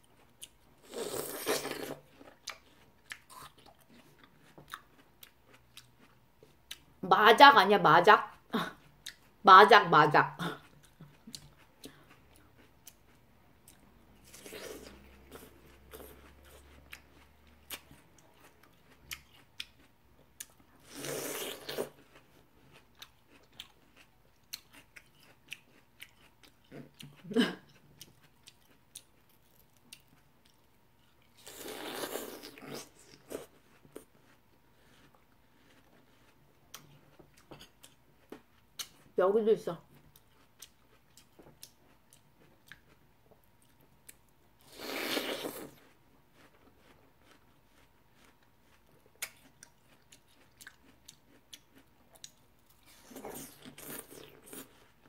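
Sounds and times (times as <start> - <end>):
crunchy watermelon bites and chewing: 0.0 - 6.9, 10.6 - 39.1, 39.9 - 55.0.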